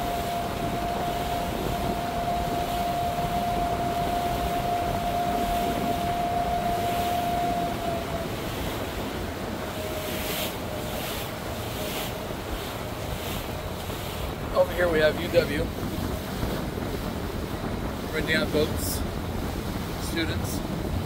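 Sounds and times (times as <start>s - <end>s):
motorboat running: 0.0s - 21.0s.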